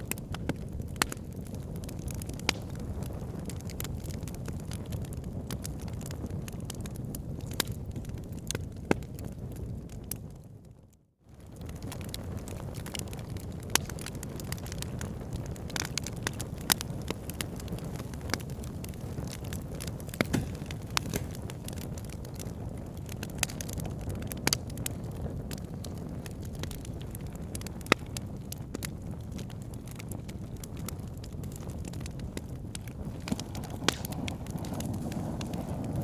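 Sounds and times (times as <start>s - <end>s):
fire crackling and popping: 0.0s - 36.0s
fire flames rumbling: 0.0s - 36.0s.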